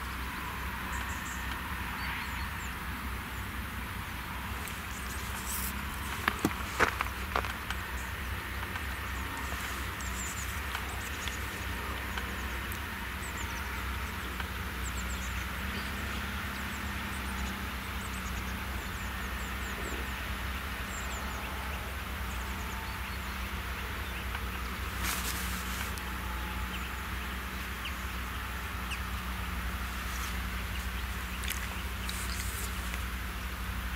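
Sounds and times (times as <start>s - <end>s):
tractor diesel engine droning: 0.0s - 33.9s.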